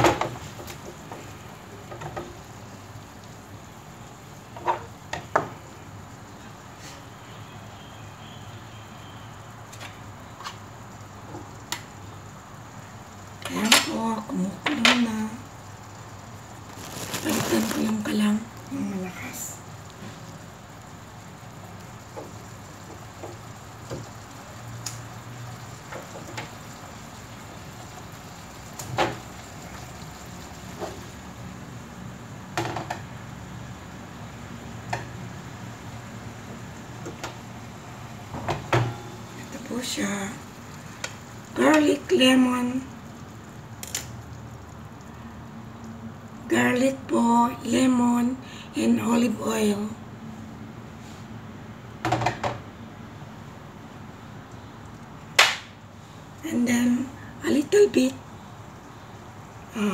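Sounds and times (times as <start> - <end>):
fish frying in a pan: 0.0 - 48.0.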